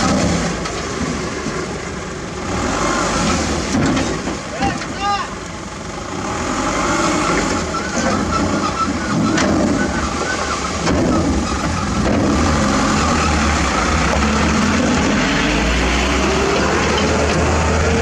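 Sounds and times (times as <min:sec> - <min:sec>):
heavy diesel machinery running: 0:00.0 - 0:18.0.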